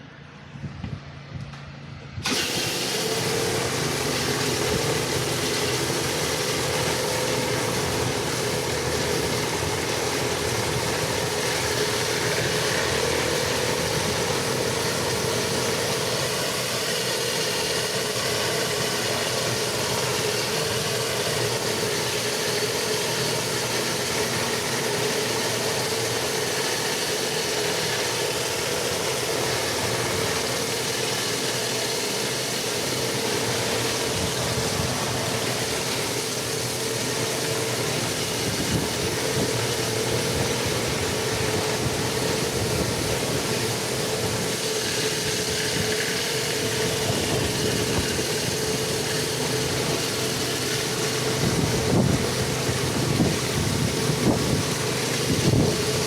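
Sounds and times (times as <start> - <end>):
pressure washer engine drone: 0.0 - 56.0
pressure washer hissing: 2.2 - 56.0.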